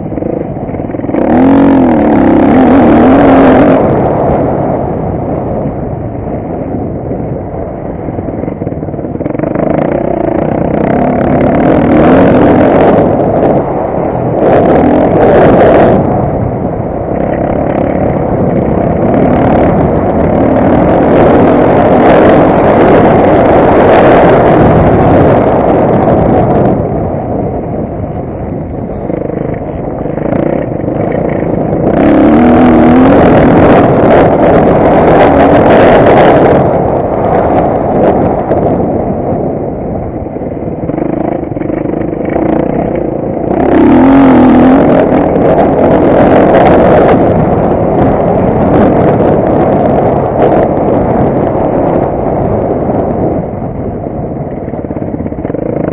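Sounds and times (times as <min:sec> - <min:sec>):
motocross bike engine revving: 0:00.0 - 0:05.2, 0:08.0 - 0:26.8, 0:28.9 - 0:38.9, 0:40.6 - 0:52.5, 0:54.6 - 0:55.9.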